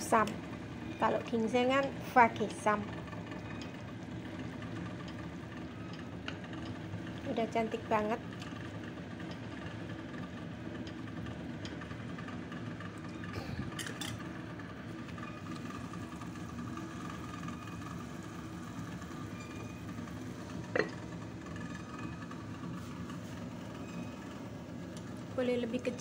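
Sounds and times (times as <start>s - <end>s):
kitchen machinery hum: 0.0s - 26.0s.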